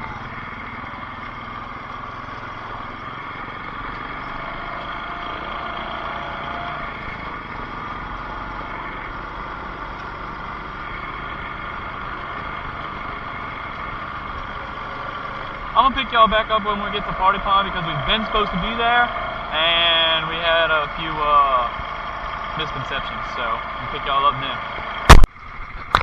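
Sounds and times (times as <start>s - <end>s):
off-road bike engine running: 0.0s - 26.0s.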